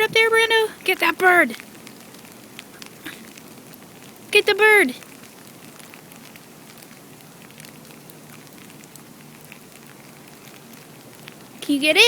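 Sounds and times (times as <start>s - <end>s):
freezing rain pattering: 0.0s - 12.0s
ice ticking on surfaces: 0.0s - 12.0s.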